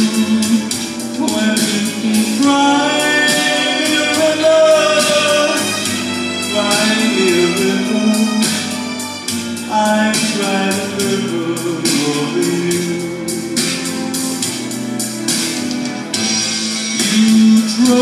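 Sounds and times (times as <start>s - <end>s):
man singing a slow ballad: 0.0s - 14.4s, 16.9s - 18.0s
instrumental accompaniment: 0.0s - 18.0s.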